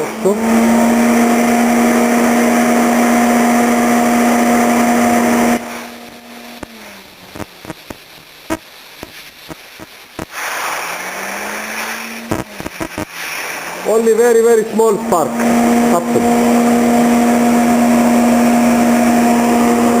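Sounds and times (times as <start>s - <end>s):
cooling fan humming: 0.0s - 20.0s.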